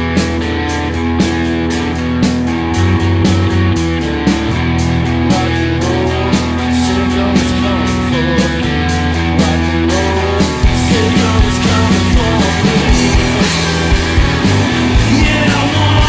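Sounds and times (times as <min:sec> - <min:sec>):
bass notes: 0:00.0 - 0:16.0
drums beating: 0:00.0 - 0:16.0
electric guitar: 0:00.0 - 0:16.0.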